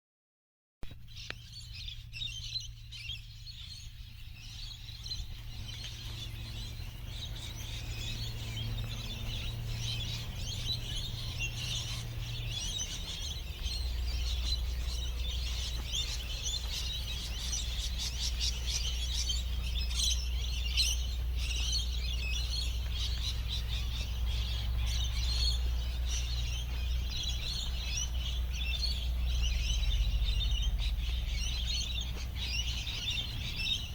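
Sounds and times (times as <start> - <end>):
small birds chirping: 0.8 - 33.9
steady low hum: 0.9 - 33.9.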